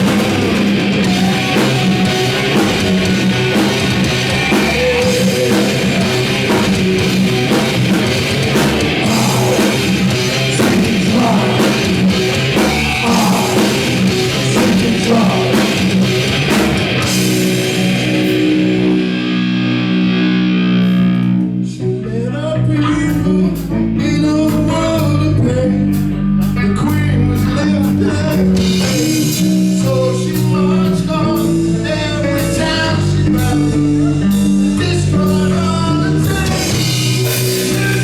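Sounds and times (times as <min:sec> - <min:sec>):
drum kit: 0:00.0 - 0:21.4, 0:25.9 - 0:38.0
distorted electric guitar: 0:00.0 - 0:38.0
rock vocals: 0:00.0 - 0:38.0.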